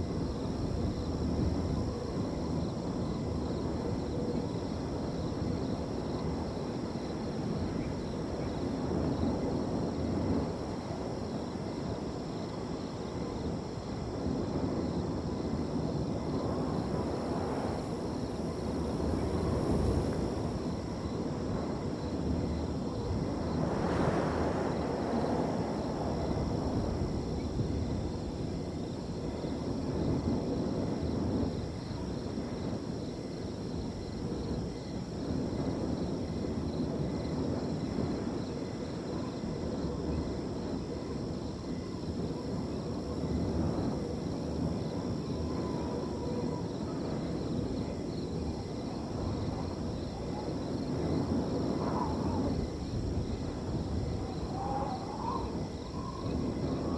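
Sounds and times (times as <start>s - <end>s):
crickets trilling: 0.0s - 56.9s
wind gusting through a field: 0.0s - 56.9s.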